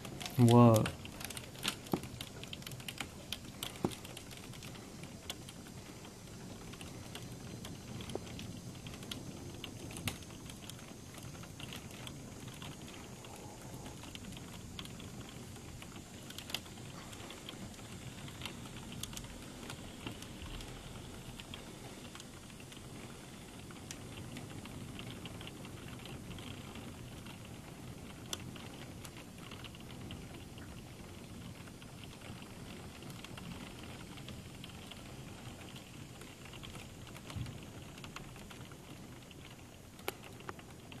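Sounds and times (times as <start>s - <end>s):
light rain pattering: 0.0s - 41.0s.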